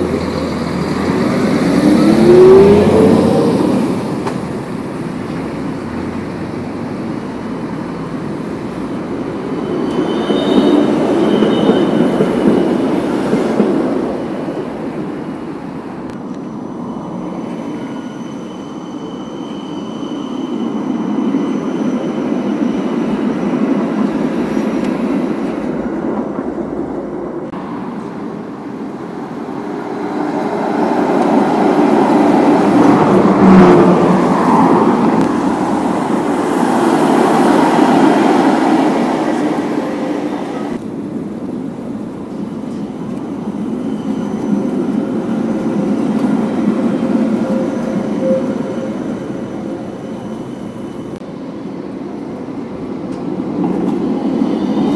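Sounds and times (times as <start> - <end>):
light street traffic: 0.0 - 20.4, 22.2 - 54.9
tram wheels rumbling on rails: 0.0 - 54.9.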